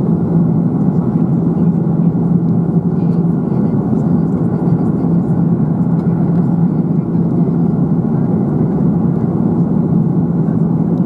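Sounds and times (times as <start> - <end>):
airplane cabin engine roar: 0.0 - 11.0.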